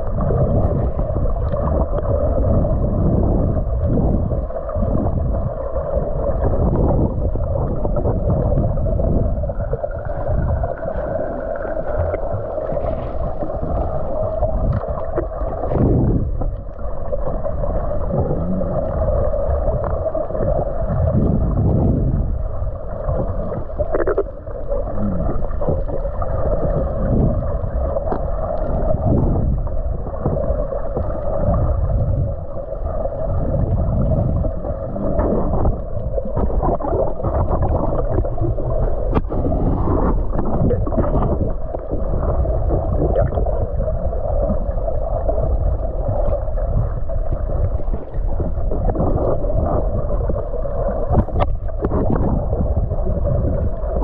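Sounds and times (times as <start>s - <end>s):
muffled underwater water drone: 0.0s - 54.0s.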